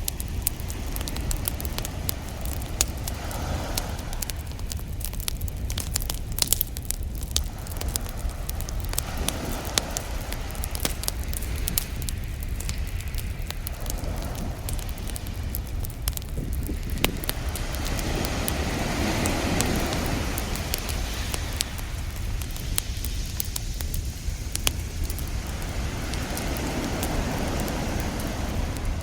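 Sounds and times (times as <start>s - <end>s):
campfire crackling and popping: 0.0s - 29.0s
ocean waves washing in: 0.0s - 29.0s.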